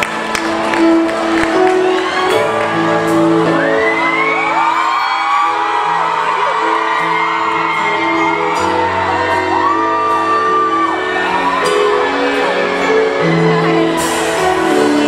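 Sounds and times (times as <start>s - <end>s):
live pop band playing: 0.0s - 15.0s.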